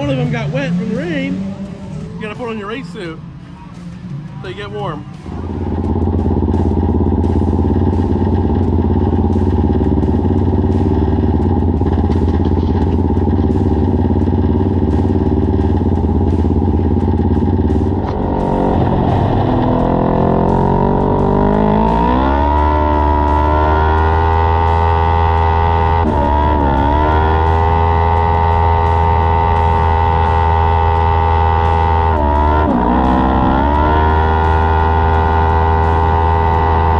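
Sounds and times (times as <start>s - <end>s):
race car engine running: 0.0s - 36.9s.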